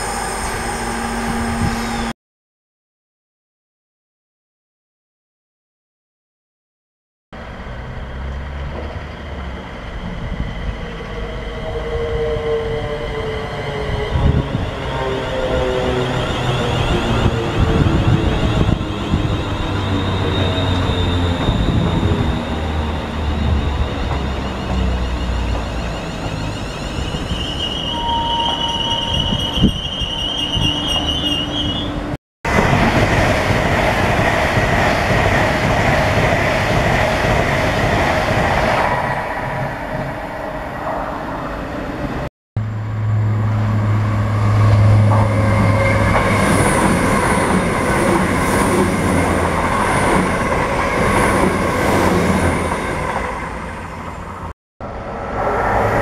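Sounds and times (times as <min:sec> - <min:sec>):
wheels rumbling on rail: 0:07.4 - 0:56.0.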